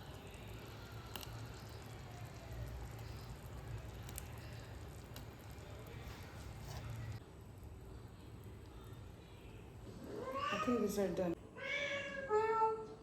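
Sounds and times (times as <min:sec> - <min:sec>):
low hiss and hum: 0:00.0 - 0:13.0.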